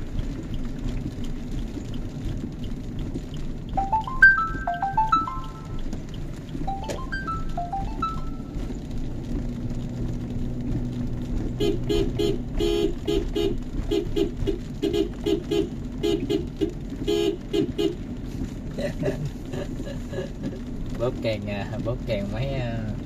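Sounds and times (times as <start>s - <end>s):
car driving on wet road: 0.0s - 23.0s.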